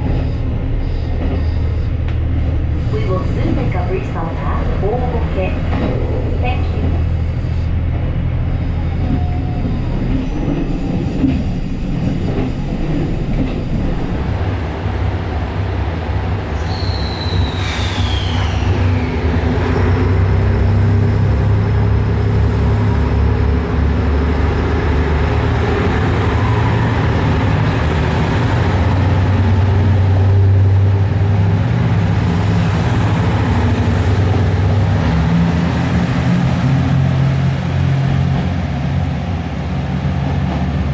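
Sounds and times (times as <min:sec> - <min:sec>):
diesel train engine drone: 0:00.0 - 0:40.9
rail noise: 0:00.0 - 0:40.9.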